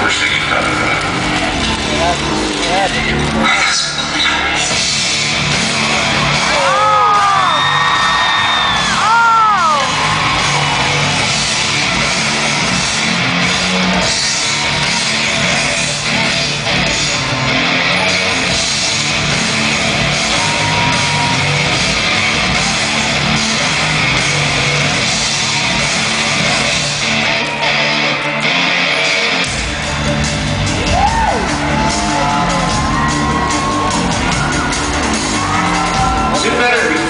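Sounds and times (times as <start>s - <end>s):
rock music with electric guitar: 0.0s - 37.0s.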